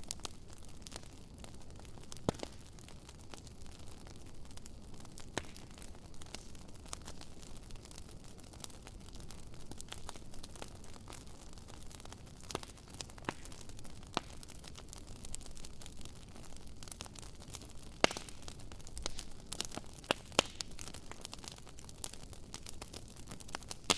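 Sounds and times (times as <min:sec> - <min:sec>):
wood fire crackling and popping: 0:00.0 - 0:23.9.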